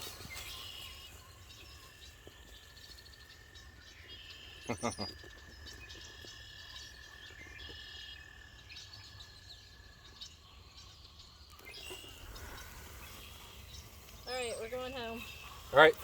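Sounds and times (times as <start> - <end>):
frogs trilling: 0.0 - 16.0.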